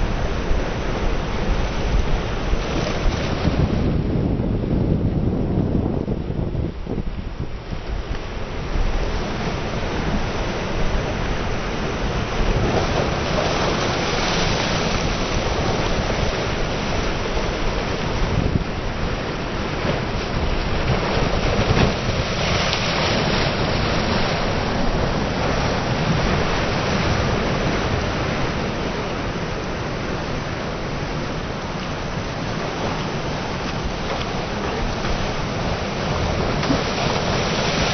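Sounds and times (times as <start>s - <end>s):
sea surf breaking: 0.0s - 4.7s, 6.4s - 37.9s
wind buffeting microphone: 0.0s - 37.9s.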